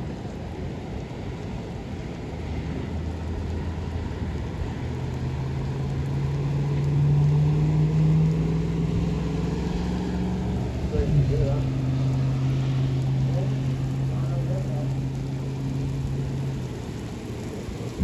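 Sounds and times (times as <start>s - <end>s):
low rumble: 3.0s - 18.0s.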